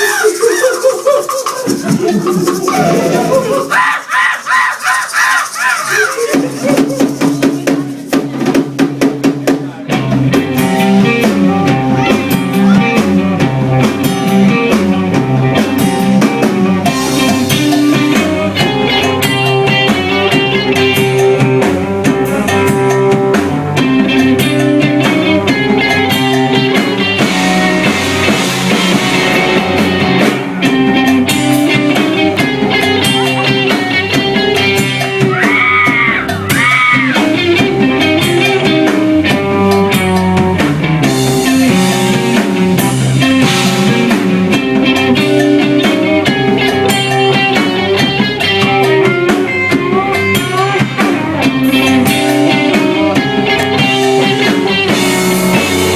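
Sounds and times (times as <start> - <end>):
electric guitar: 0.0 - 4.1, 5.4 - 55.9
drum kit beat: 0.0 - 55.9.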